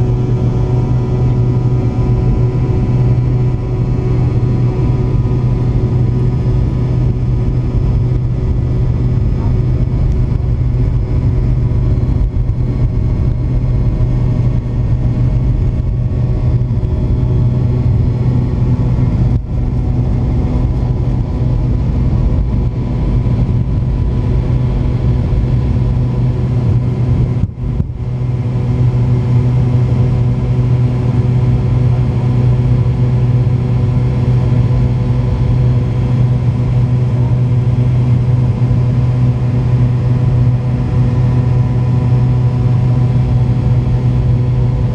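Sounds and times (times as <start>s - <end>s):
jet engines droning: 0.0s - 44.9s.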